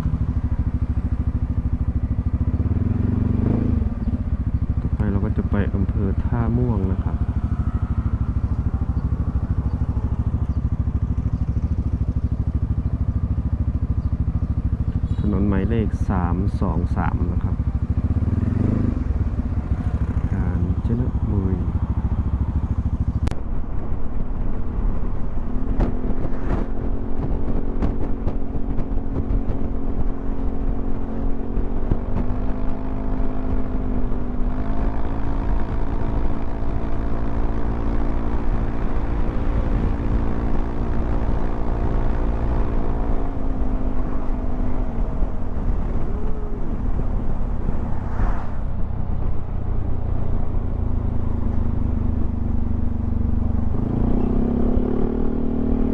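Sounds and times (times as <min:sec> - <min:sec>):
scooter engine droning: 0:00.0 - 0:23.3, 0:26.5 - 0:55.9
wind rumble on microphone: 0:00.0 - 0:55.9.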